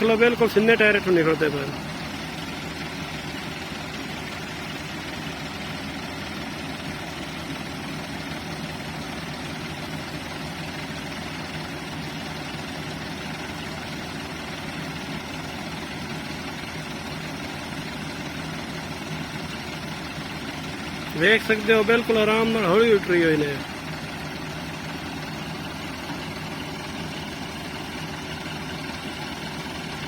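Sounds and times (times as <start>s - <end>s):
tractor diesel engines under load: 0.0s - 30.0s.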